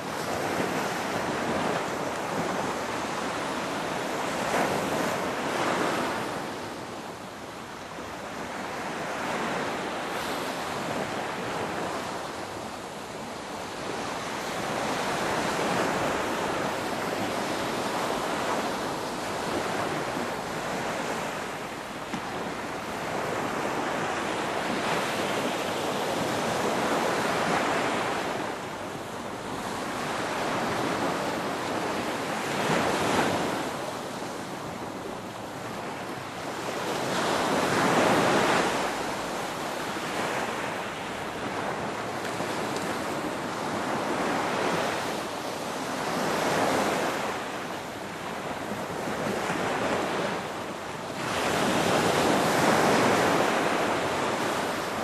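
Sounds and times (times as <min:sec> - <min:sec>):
ocean waves breaking: 0:08.2 - 0:55.0.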